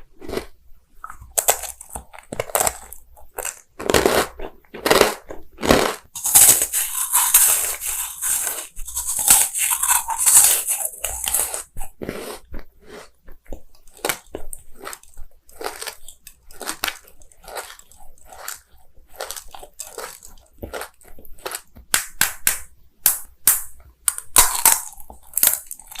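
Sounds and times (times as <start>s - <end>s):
crunchy bites and chewing: 0.2s - 22.6s, 23.5s - 26.0s.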